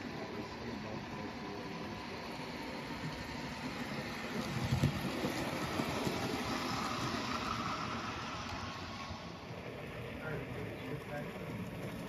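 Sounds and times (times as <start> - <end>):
model train rumbling and clicking: 0.0 - 12.0.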